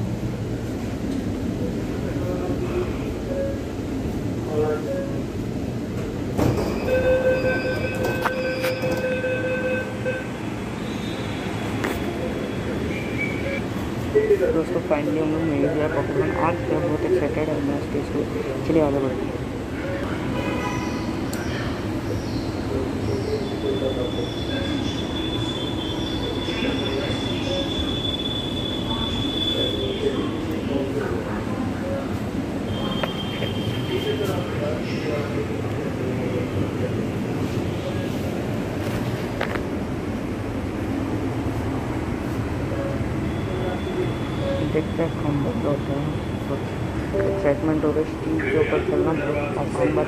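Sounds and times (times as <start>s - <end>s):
train rumble: 0.0s - 50.0s.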